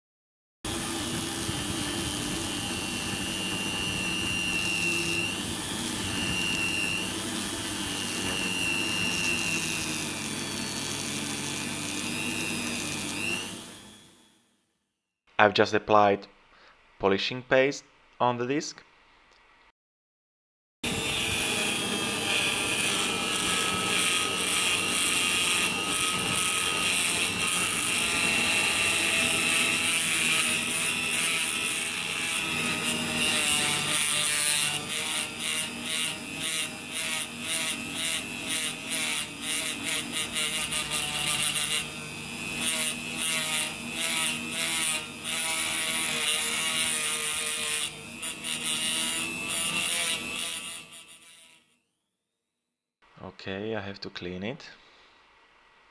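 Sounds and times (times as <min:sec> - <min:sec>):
rotary tool motor whine: 0:00.7 - 0:14.5, 0:20.8 - 0:52.0.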